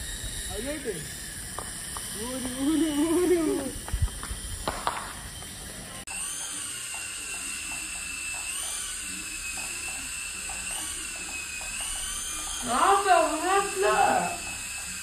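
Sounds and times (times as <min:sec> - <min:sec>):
toy helicopter motor whine: 0:00.0 - 0:15.0.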